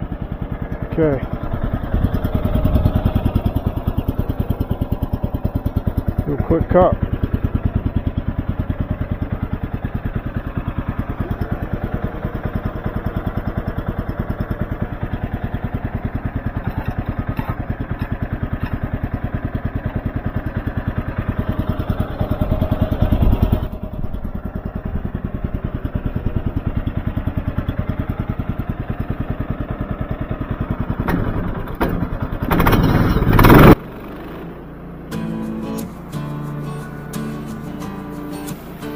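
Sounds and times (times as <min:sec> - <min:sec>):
gas engine chugging: 0:00.0 - 0:33.8.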